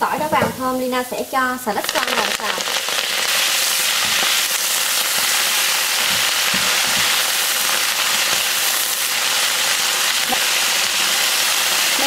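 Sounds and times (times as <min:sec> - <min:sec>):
greens sizzling in hot oil: 0:00.0 - 0:12.0.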